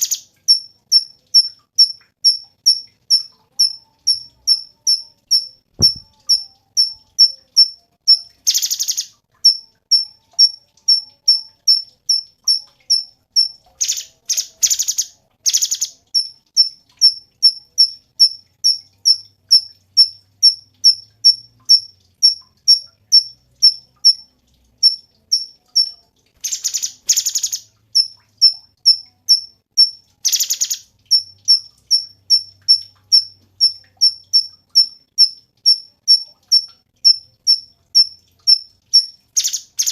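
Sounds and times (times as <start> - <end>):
bird chirping: 0.0 - 24.2, 24.8 - 36.7, 37.5 - 39.9.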